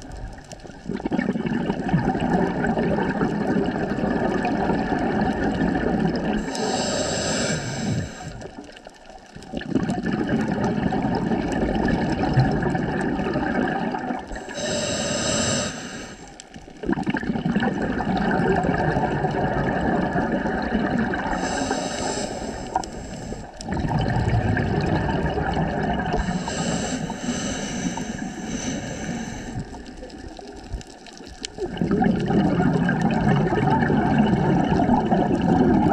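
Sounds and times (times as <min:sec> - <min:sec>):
underwater regulator bubbles: 0:00.0 - 0:35.9.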